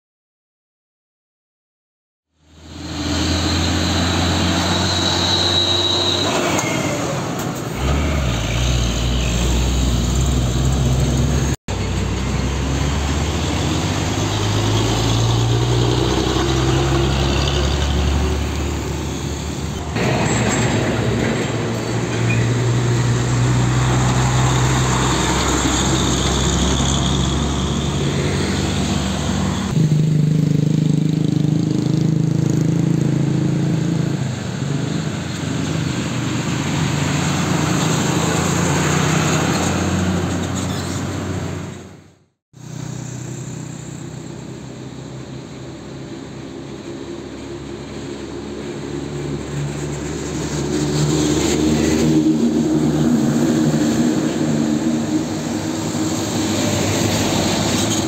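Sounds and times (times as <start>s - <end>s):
diesel trucks driving past: 2.4s - 58.0s.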